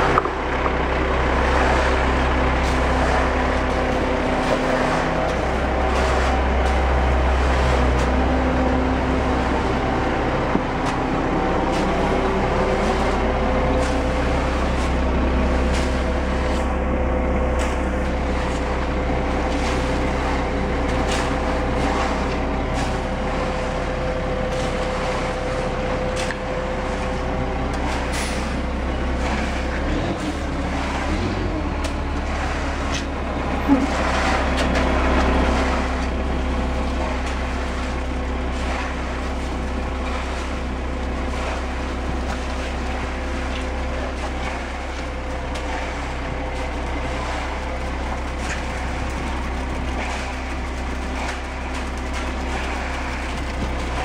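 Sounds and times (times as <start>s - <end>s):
concrete truck running: 0.0s - 54.0s
wet concrete sliding down chute: 0.0s - 54.0s.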